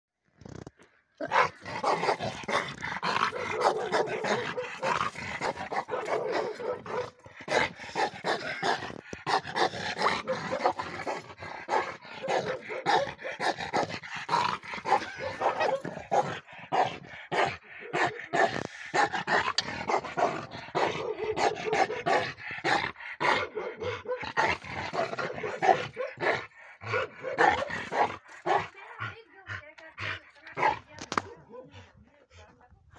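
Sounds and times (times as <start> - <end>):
dog barking aggressively: 1.2 - 29.0, 30.5 - 31.8.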